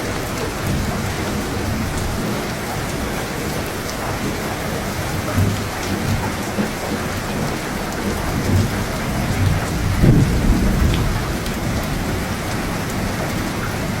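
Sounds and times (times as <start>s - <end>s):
heavy rain hissing: 0.0s - 14.0s
thunder rumbling: 0.0s - 14.0s.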